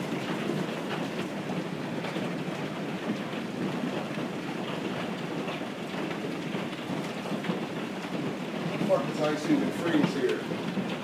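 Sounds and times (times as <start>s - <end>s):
hail falling on grass and paving: 0.0s - 11.0s.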